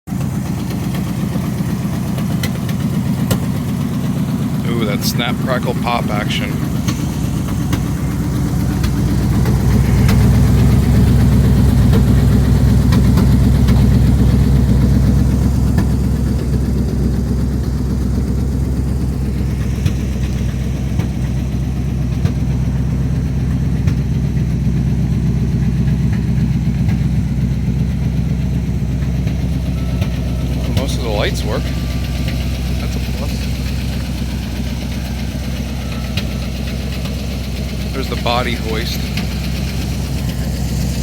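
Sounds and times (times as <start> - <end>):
engine pops: 0.1 - 41.0
pickup engine idling: 0.1 - 41.0.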